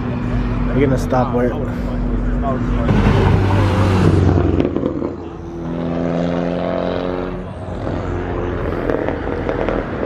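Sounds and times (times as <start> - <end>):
car engine running loudly: 0.0 - 10.0.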